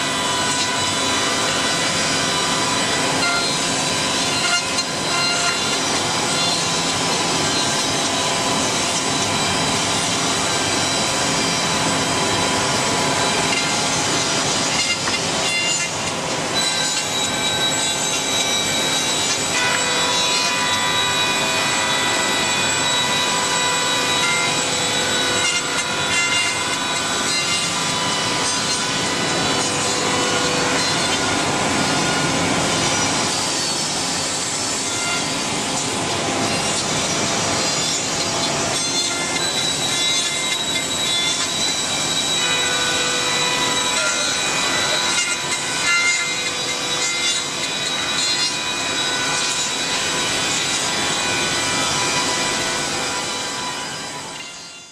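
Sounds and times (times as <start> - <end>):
router bits cutting wood: 0.0 - 54.5
spindle motors whining: 0.0 - 54.9.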